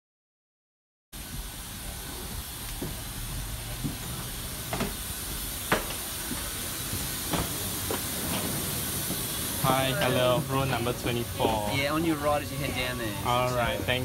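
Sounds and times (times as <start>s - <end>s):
footsteps of passengers: 1.2s - 14.0s
rushing hiss of air: 1.2s - 14.0s.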